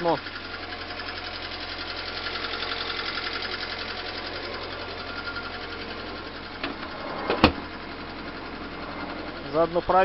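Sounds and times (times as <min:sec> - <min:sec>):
car engine idling with ticking: 0:00.0 - 0:10.0.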